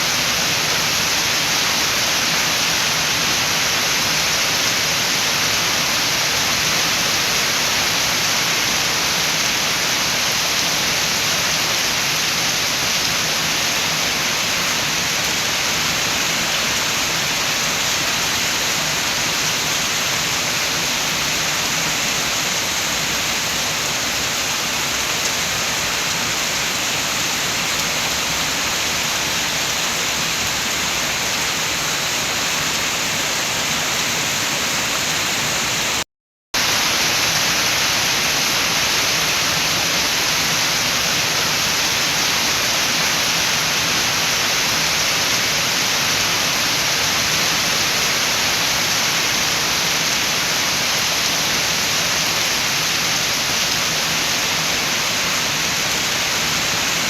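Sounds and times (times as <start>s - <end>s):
steady rain with wind: 0.0s - 36.0s, 36.6s - 57.0s.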